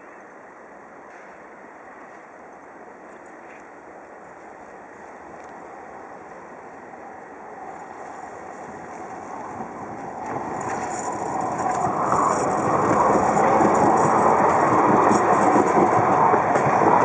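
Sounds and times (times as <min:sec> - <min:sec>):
tram running on rails: 0:00.0 - 0:17.0.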